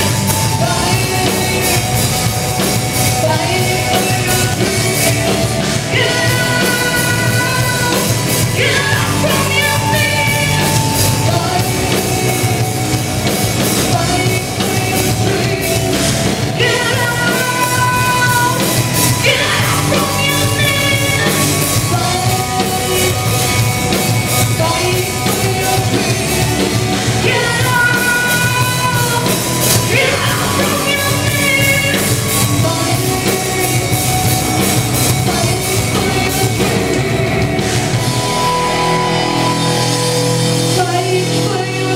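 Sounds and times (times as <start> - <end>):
woman singing: 0.0 - 23.6, 24.3 - 37.6, 40.6 - 41.9
heavy metal band playing: 0.0 - 41.9.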